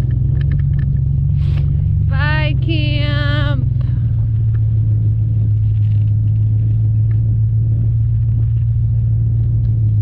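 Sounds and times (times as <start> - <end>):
pickup truck rumble: 0.0 - 10.0.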